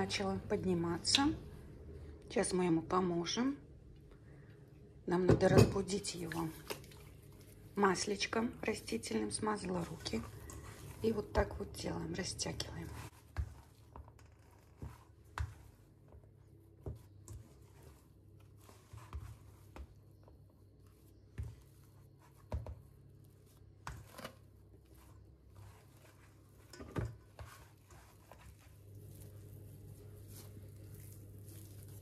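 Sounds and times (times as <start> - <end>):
dough slapping in a bowl: 5.3 - 32.0.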